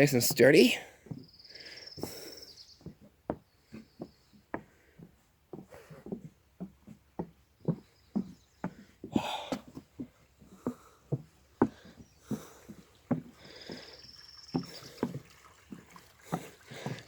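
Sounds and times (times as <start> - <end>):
footsteps on footbridge: 0.0 - 17.0.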